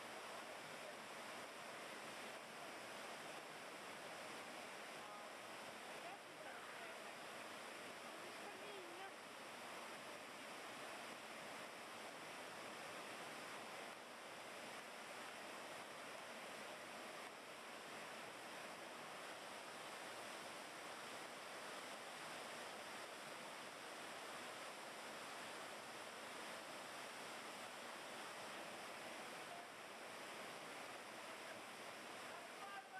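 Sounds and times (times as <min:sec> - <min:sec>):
fast-flowing river water: 0:00.0 - 0:32.9.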